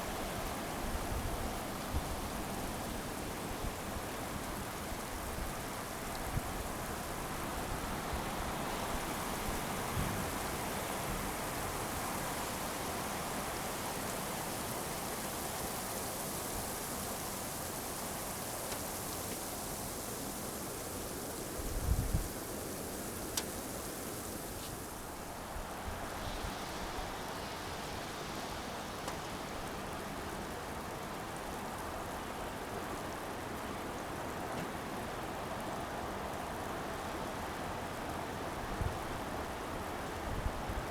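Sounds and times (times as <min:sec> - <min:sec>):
storm rain hissing: 0:00.0 - 0:34.2.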